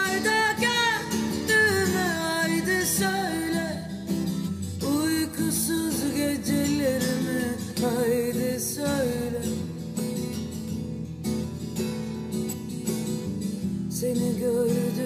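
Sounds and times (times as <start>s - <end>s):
instrumental love song music: 0.0s - 15.0s.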